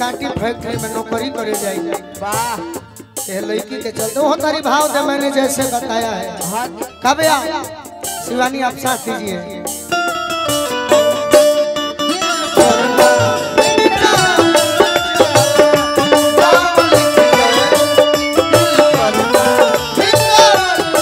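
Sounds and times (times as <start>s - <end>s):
folk band instrumental: 0.0s - 21.0s
hand drums beating: 0.0s - 21.0s.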